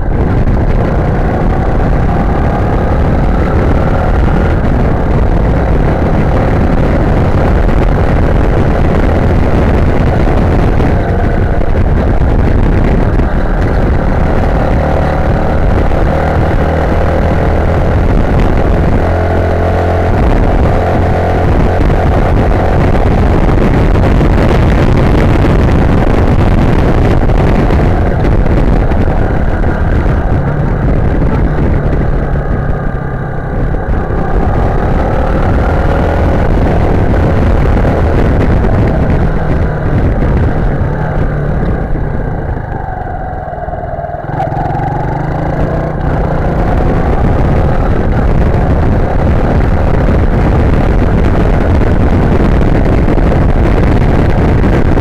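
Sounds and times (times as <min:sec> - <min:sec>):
motorcycle engine running: 0:00.0 - 0:55.0
rushing wind noise: 0:00.0 - 0:55.0.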